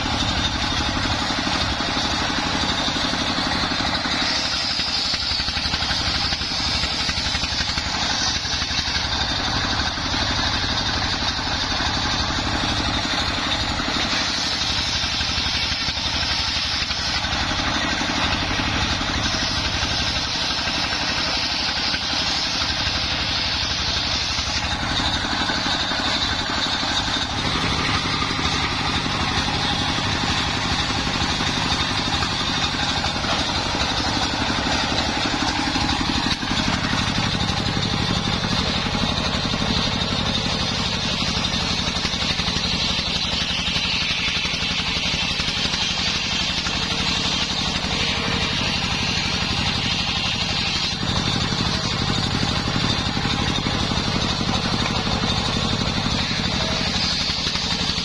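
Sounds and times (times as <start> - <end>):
circular saw whining through wood: 0.0 - 58.0
stationary engine throbbing: 0.0 - 58.0.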